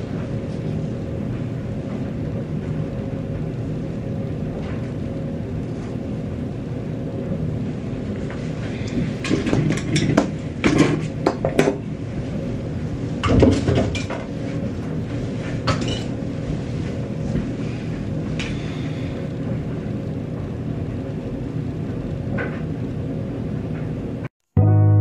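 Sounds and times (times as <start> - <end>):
low hum and rumble: 0.0 - 25.0.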